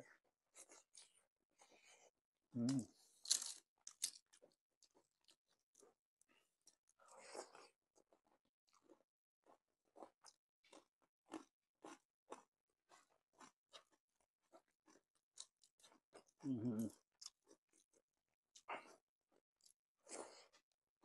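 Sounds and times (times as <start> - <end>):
person chewing crunchy food: 0.5 - 20.7.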